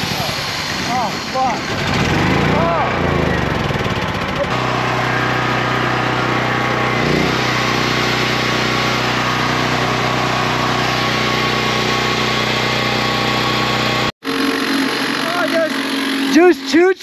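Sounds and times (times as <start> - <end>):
motor running loudly: 0.0 - 17.0.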